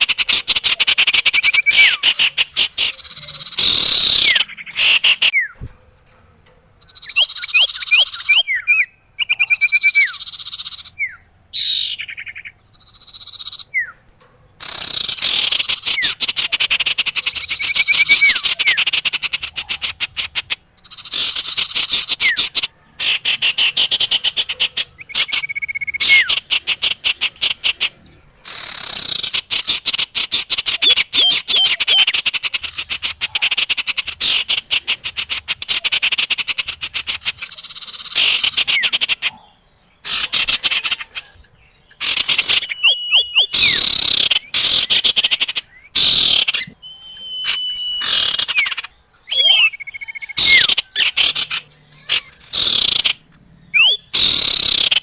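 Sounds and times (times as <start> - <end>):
rapid high chattering bird trills: 0.0 - 55.0
whistled bird notes: 0.2 - 5.7, 6.8 - 14.0, 14.6 - 33.5, 35.8 - 55.0.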